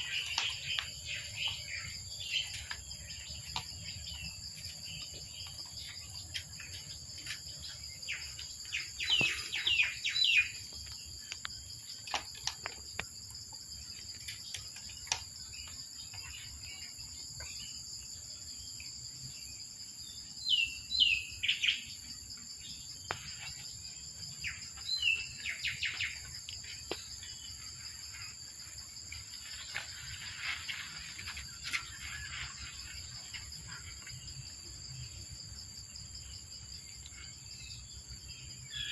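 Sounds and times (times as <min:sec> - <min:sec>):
insects droning: 0:00.0 - 0:38.9
small birds chirping: 0:00.0 - 0:38.9.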